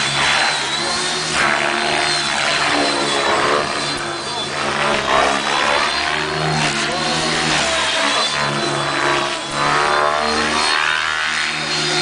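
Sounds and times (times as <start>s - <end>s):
model helicopter rotors: 0.0s - 12.0s
steady high whine: 0.0s - 12.0s.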